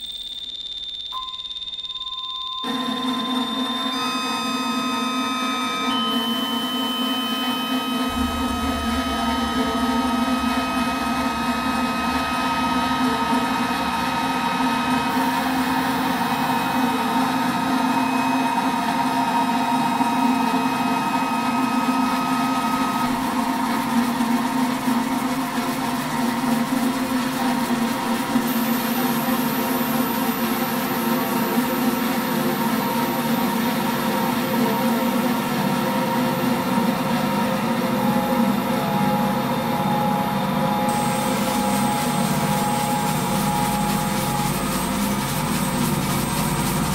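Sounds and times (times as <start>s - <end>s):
high whine: 0.0s - 46.9s
electronic drone music: 2.7s - 46.9s.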